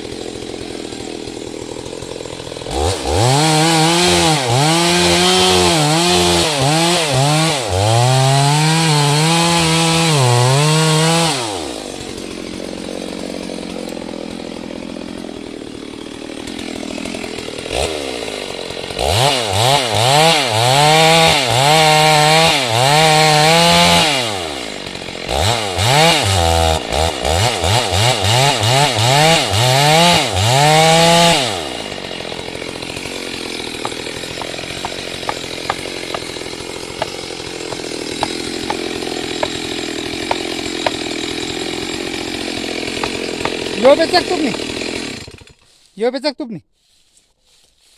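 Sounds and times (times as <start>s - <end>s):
chainsaw cutting wood: 0.0s - 46.1s.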